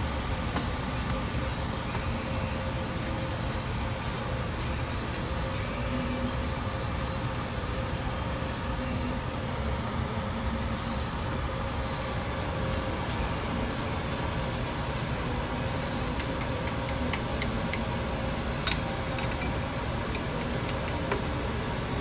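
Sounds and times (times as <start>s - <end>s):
faint constant hum: 0.0s - 22.0s
shop equipment rumbling: 0.0s - 22.0s.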